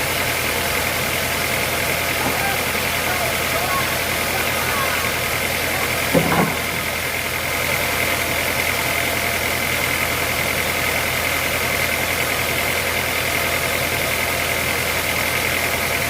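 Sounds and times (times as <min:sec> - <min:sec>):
sawmill machinery drone: 0:00.0 - 0:16.0.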